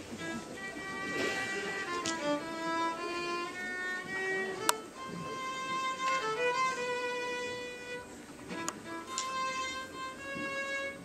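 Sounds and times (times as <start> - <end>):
slow violin melody: 0.0 - 11.0.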